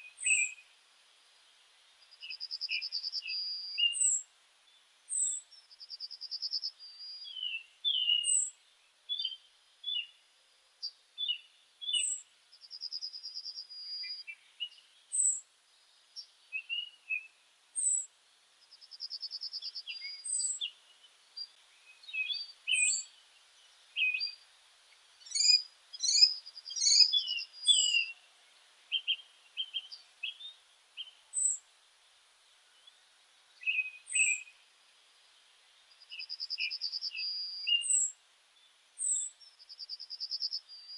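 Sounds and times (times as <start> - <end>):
birds calling and singing: 0.0 - 0.7, 2.0 - 10.2, 10.8 - 18.1, 18.7 - 31.6, 32.6 - 34.6, 35.2 - 40.9.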